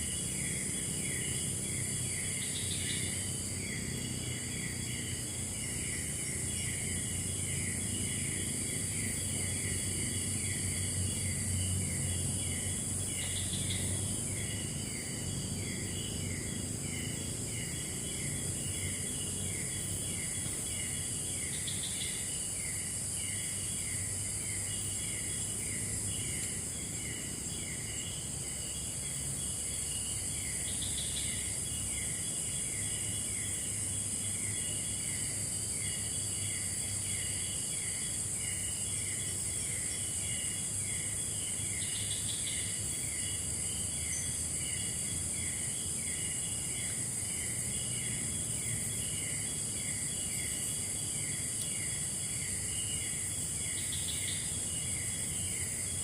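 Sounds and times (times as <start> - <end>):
high insect trill: 0.0 - 56.0
insect chirping: 0.0 - 56.0.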